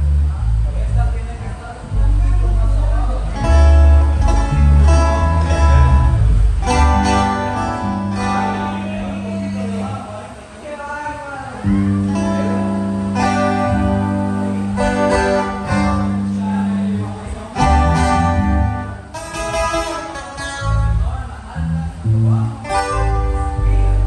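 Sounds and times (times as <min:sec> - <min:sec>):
electric bass notes: 0:00.0 - 0:10.4, 0:11.5 - 0:24.0
strummed acoustic guitar chords: 0:01.0 - 0:10.1, 0:11.7 - 0:24.0.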